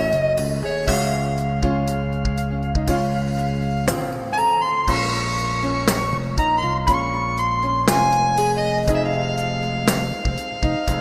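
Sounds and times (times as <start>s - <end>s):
sustained melodic instrument notes: 0.0s - 11.0s.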